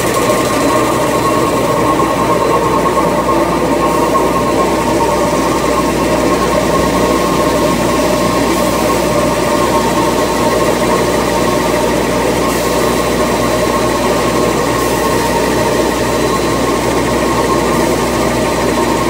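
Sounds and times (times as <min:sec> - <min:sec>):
factory machinery din: 0:00.0 - 0:19.0
machine held tones: 0:00.0 - 0:19.0.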